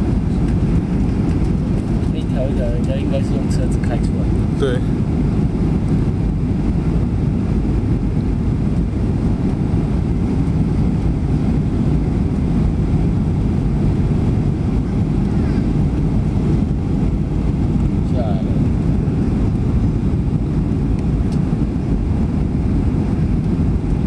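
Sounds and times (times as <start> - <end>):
airliner cabin engine rumble: 0.0 - 24.0.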